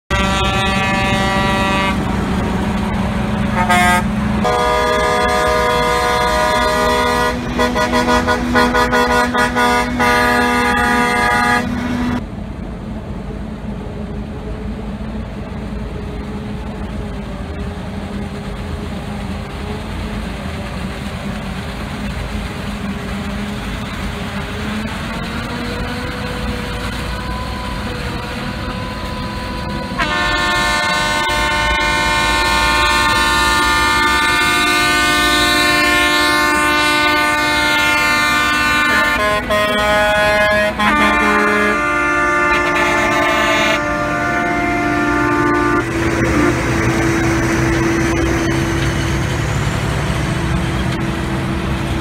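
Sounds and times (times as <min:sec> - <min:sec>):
heavy engines running: 0:00.1 - 0:52.0
loud steady whine: 0:00.1 - 0:52.0.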